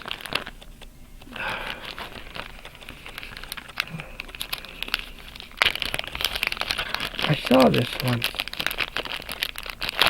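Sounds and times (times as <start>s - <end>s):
packing material crinkling: 0.0s - 10.0s.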